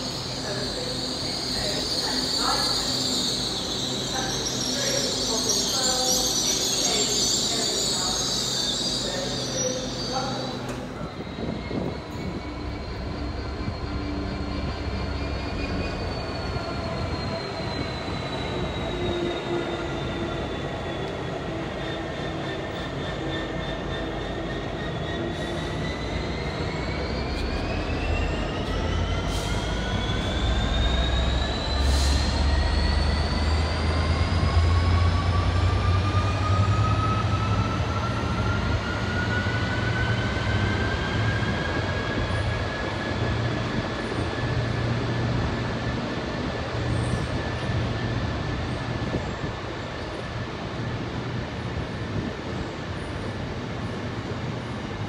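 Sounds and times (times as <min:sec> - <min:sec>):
low train rumble: 0:00.0 - 0:55.0
train traction whine rising: 0:00.0 - 0:55.0.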